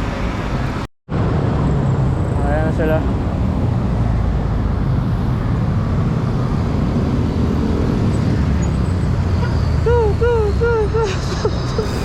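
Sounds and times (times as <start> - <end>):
traffic passing with low rumble: 0.0 - 12.0.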